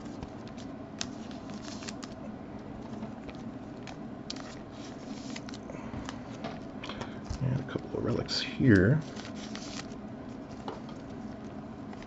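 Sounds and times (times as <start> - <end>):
cards rustling and tapping: 0.0 - 7.9, 8.6 - 12.0
steady low hum: 0.0 - 12.0.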